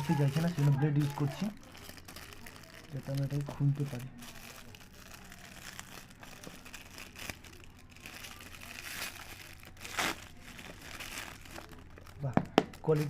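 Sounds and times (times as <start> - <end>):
wrapping crinkling and rustling: 0.0 - 13.0.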